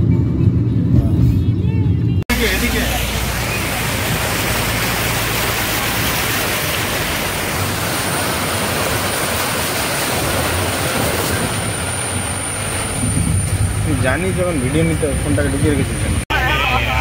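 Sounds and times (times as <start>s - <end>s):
low engine rumble: 0.0s - 17.0s
water splashing against wheels: 2.3s - 16.2s.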